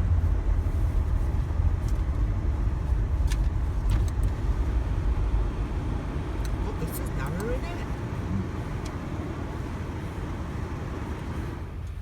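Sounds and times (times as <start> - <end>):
car wash machine rumble and spray: 0.0 - 12.0.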